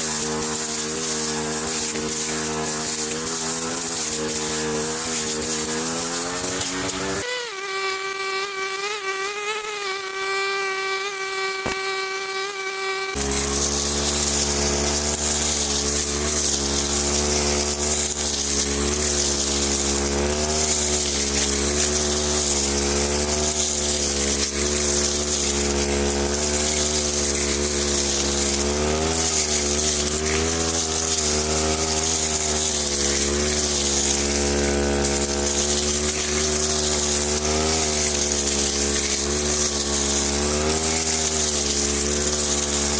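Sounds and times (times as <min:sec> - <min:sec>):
grass trimmer motor running: 0:00.0 - 0:42.9
hiss: 0:00.0 - 0:42.9.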